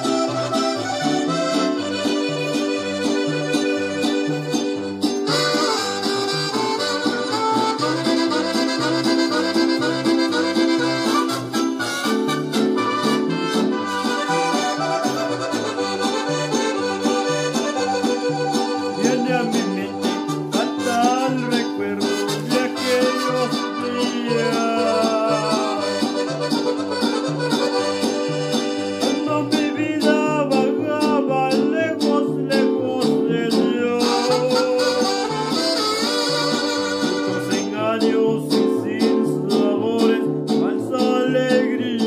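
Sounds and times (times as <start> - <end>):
regional instrumental music: 0.0 - 42.0.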